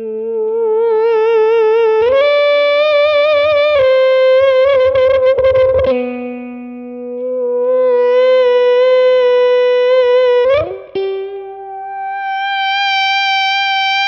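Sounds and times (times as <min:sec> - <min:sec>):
electric guitar feedback tones: 0:00.0 - 0:14.0
scratchy string noise: 0:00.3 - 0:14.0.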